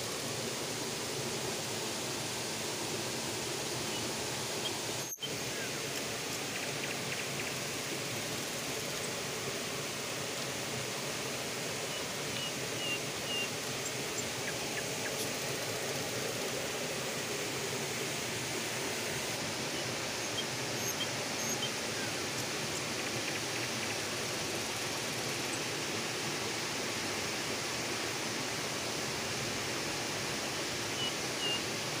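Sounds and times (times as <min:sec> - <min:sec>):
rocky river rushing: 0:00.0 - 0:32.0.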